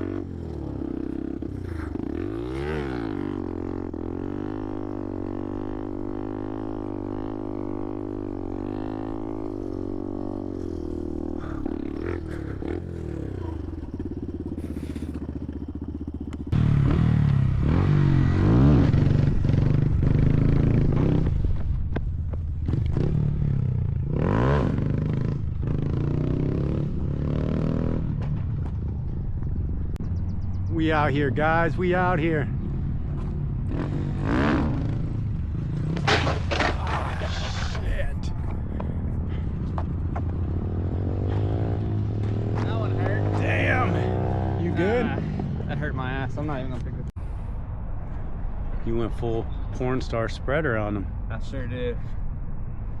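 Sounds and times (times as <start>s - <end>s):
motorcycle engine revving: 0.0s - 47.2s.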